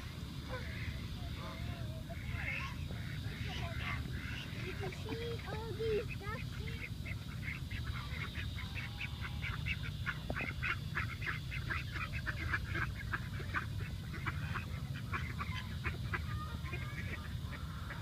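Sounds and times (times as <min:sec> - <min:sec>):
ducks and geese calling: 0:00.0 - 0:18.0.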